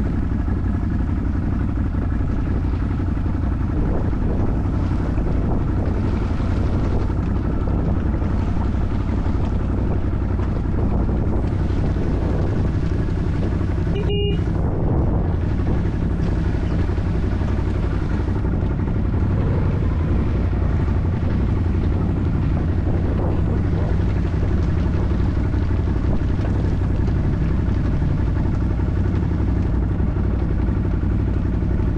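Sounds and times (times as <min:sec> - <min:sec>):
atv engine running under load: 0:00.0 - 0:31.9.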